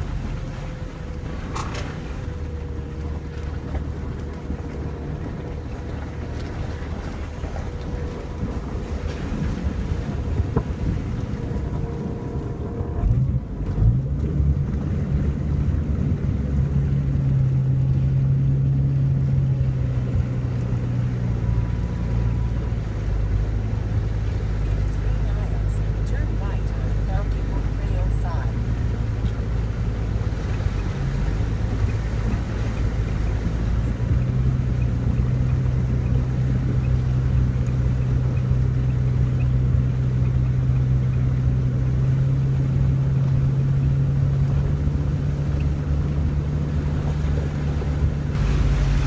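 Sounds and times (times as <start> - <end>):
car engine running: 0.0 - 49.0
water washing around vehicle: 0.0 - 49.0.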